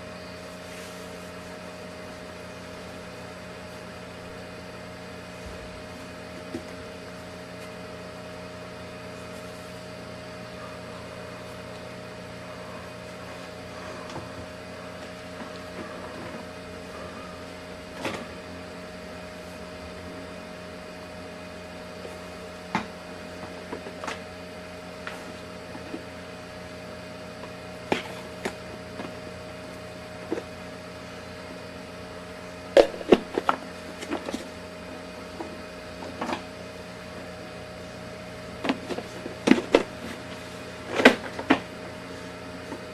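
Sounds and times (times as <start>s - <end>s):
steady electrical hum: 0.0s - 42.9s.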